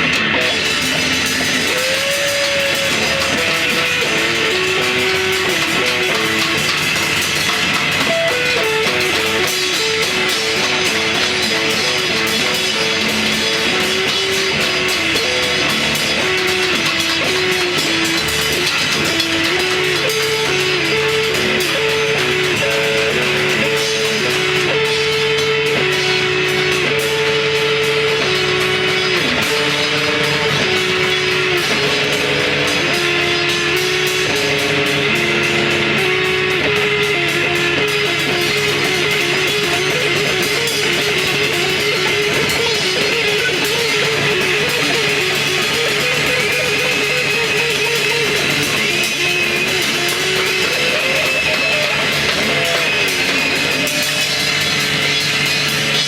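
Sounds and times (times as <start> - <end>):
electric guitar melody: 0.0 - 56.0.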